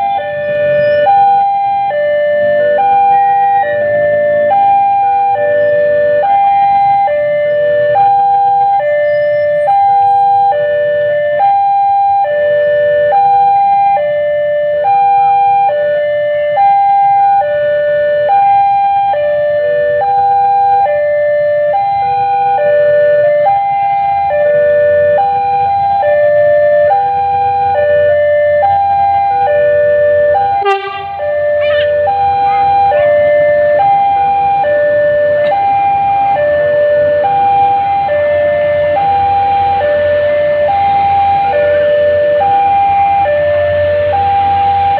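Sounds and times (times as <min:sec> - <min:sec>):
level crossing warning alarm: 0:00.0 - 0:44.9.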